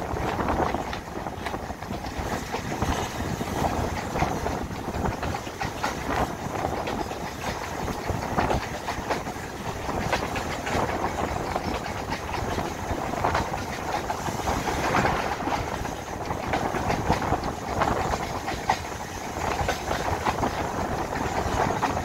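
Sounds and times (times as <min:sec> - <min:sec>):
train wheels clattering over joints: 0:00.0 - 0:22.0.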